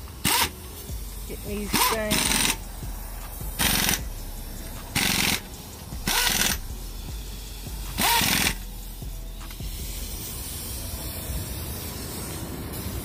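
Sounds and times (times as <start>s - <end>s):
pneumatic impact wrench rattling: 0.0s - 13.0s.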